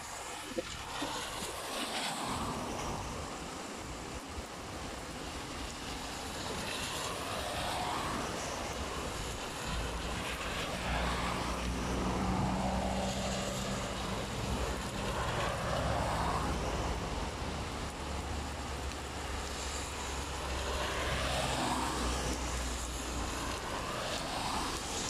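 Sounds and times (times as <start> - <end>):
steady rain: 0.0 - 25.0
tyres hissing through water: 0.0 - 25.0.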